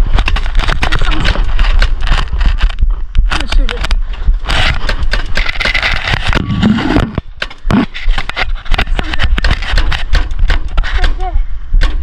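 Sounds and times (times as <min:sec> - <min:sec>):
clothing rubbing on microphone: 0:00.0 - 0:11.0.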